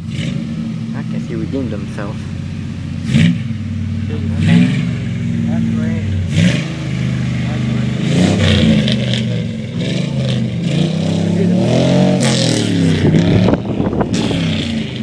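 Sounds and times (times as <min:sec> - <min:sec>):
vehicle engine idling and revving: 0:00.0 - 0:15.0.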